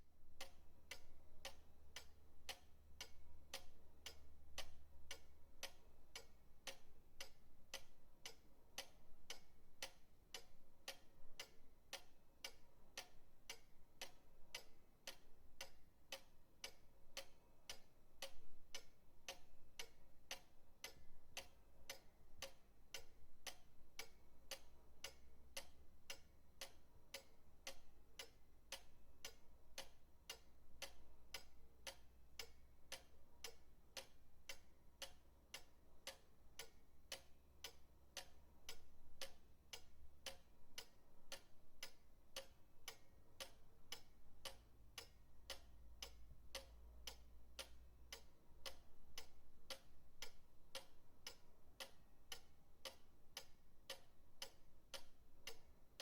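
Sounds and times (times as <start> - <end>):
pendulum clock ticking: 0.0 - 56.0.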